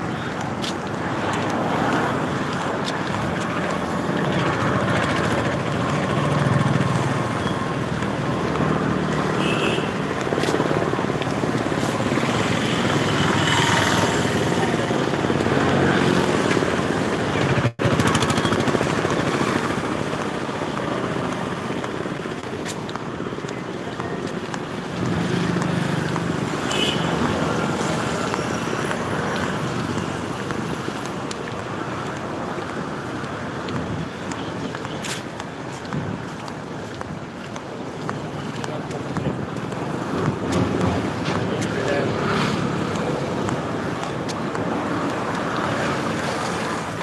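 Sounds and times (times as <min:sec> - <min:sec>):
city street traffic: 0:00.0 - 0:47.0.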